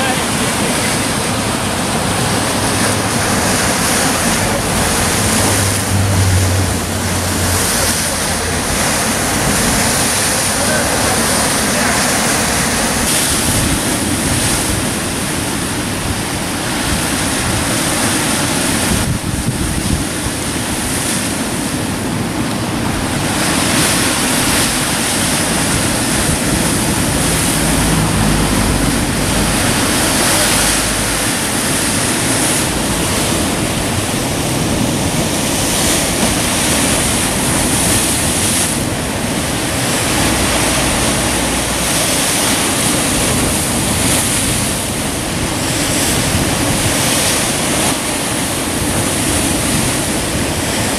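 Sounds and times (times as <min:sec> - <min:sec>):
surf breaking on rocks: 0:00.0 - 0:50.9
wind buffeting microphone: 0:00.0 - 0:50.9.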